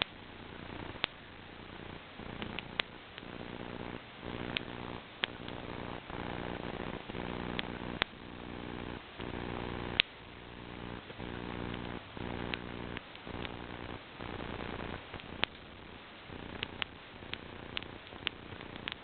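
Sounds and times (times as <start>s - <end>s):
low steady hum: 0.0s - 19.0s
wood fire crackling and popping: 0.0s - 19.0s.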